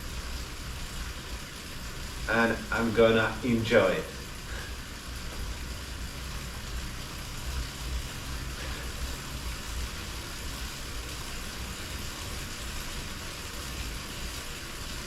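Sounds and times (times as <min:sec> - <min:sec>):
even hiss: 0:00.0 - 0:14.8
bicycle trainer rumble: 0:00.0 - 0:15.0.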